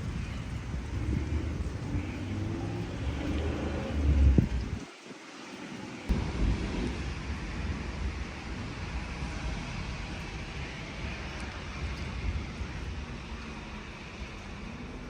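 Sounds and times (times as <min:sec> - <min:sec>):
thunder rumbling: 0:00.0 - 0:04.9, 0:06.1 - 0:15.0.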